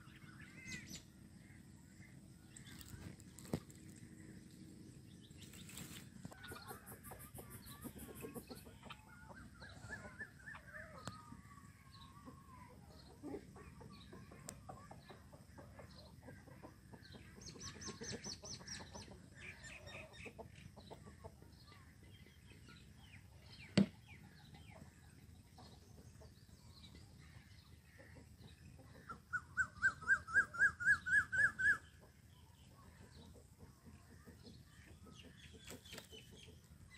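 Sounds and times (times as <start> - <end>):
birds chirping and trilling: 0.0 - 36.9.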